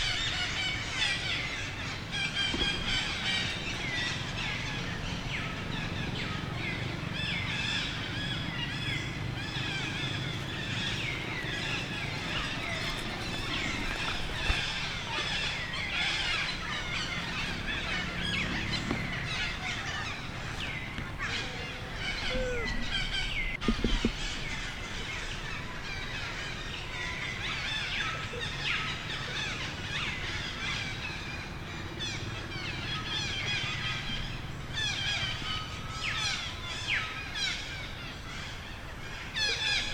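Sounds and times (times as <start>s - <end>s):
low outdoor rumble: 0.0s - 39.9s
small birds chirping: 0.0s - 39.9s.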